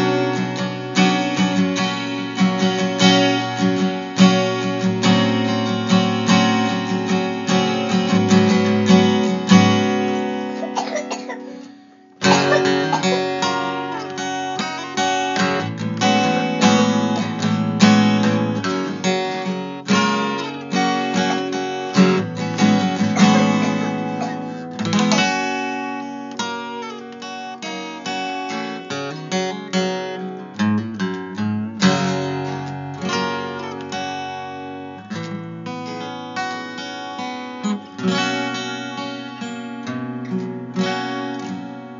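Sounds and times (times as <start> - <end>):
acoustic guitar music: 0.0 - 41.9.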